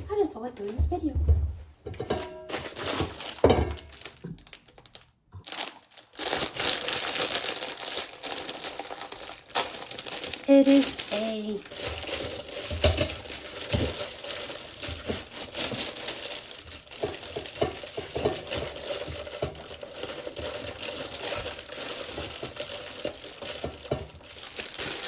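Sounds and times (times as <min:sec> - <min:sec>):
food packaging crinkling: 0:02.0 - 0:25.0.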